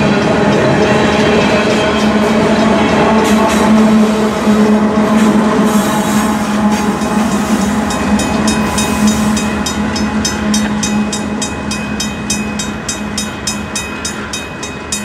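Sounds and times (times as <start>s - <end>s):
diesel locomotive drone: 0.0s - 15.0s
railroad crossing bell ringing: 0.0s - 15.0s.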